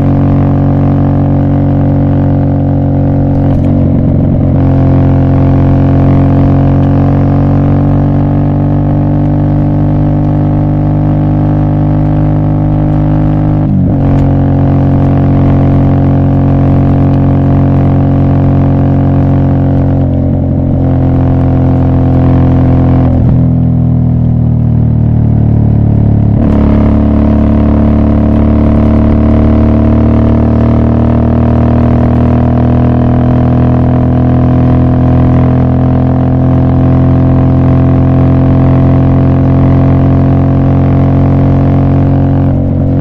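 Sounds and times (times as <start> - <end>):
motorcycle engine droning: 0.0 - 43.0.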